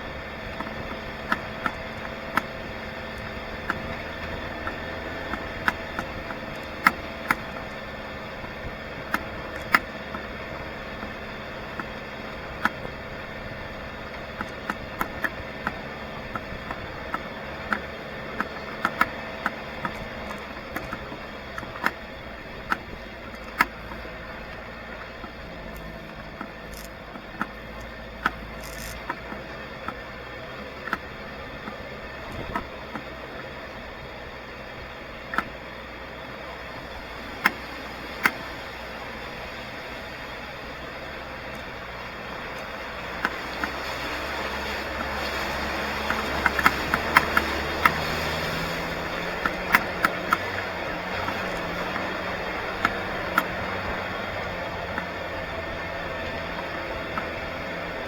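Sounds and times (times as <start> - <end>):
sharp clicks and knocks: 0.0 - 58.0
vehicle engine running: 0.0 - 58.0.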